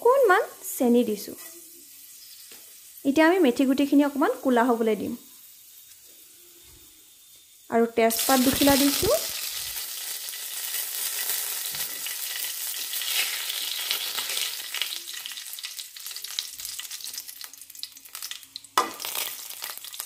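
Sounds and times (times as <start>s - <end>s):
seeds sizzling in hot oil: 0.1s - 20.0s.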